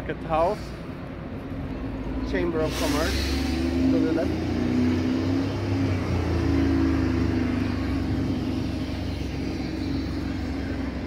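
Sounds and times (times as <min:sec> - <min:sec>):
road noise: 0:00.0 - 0:11.0
vehicle engine droning: 0:00.0 - 0:11.0.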